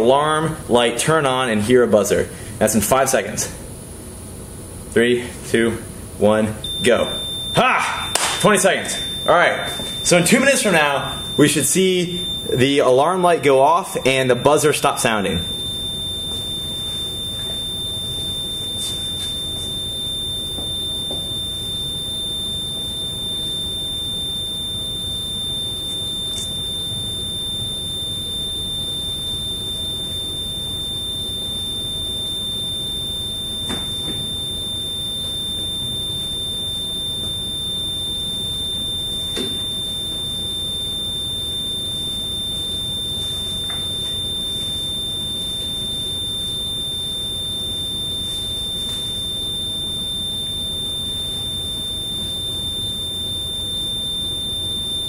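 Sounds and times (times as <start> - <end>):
high-pitched electronic buzzer tone: 6.6 - 55.0.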